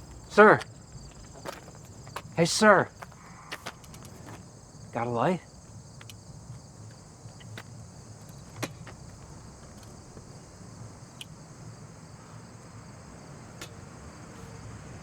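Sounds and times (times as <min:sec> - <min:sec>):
crickets chirping: 0:00.0 - 0:15.0
distant traffic rumble: 0:00.0 - 0:15.0.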